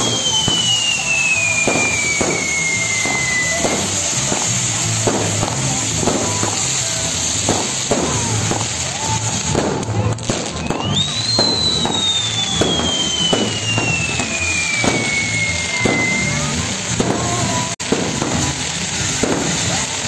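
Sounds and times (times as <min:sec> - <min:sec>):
firecracker bangs: 0:00.0 - 0:20.0
fizzing hiss of spark fountains: 0:00.0 - 0:20.0
whistling firework: 0:00.0 - 0:20.0.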